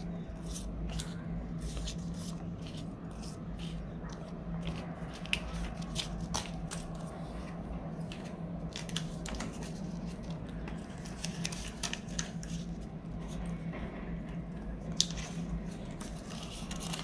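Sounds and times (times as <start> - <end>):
plastic and banknotes rustling: 0.0 - 13.4, 14.8 - 17.0.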